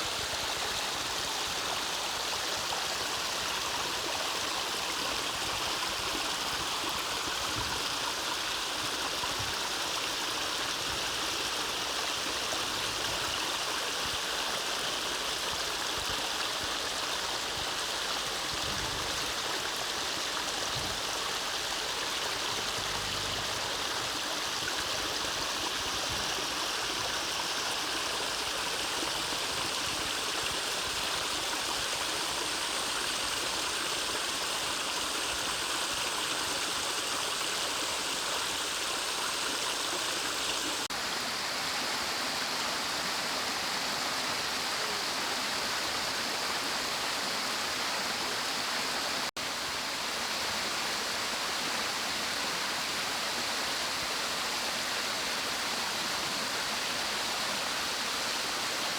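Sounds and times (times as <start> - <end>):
stream running over rocks: 0.0 - 58.9.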